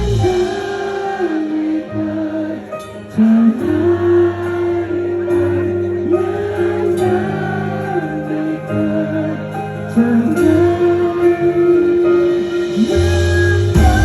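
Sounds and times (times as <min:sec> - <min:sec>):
live pop-rock band music: 0:00.0 - 0:14.0.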